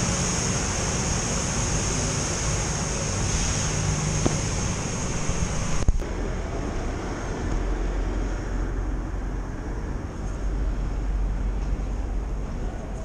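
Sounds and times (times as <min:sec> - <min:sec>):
traffic: 0:00.0 - 0:13.0.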